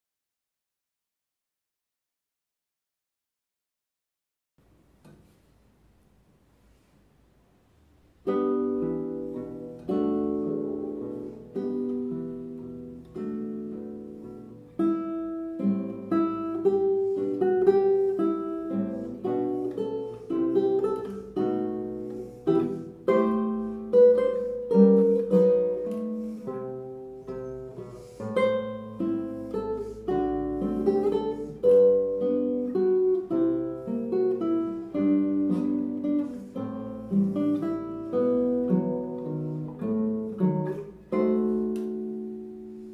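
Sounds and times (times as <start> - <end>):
classical guitar fingerstyle: 4.7 - 6.9, 7.7 - 42.9.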